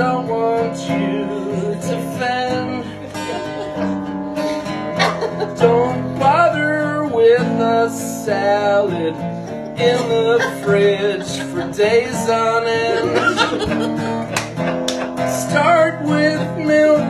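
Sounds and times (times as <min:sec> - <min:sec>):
person singing: 0:00.0 - 0:14.4, 0:15.0 - 0:17.0
acoustic guitar strumming: 0:00.0 - 0:17.0.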